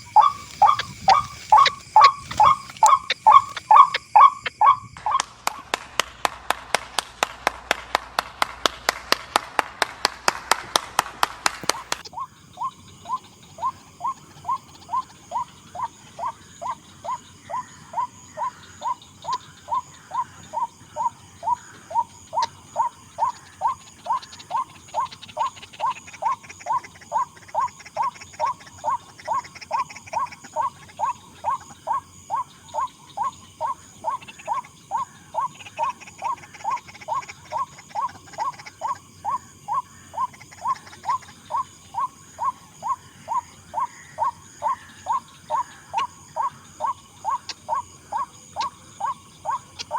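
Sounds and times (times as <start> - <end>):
waterhen calling: 0.0 - 5.3, 11.6 - 49.9.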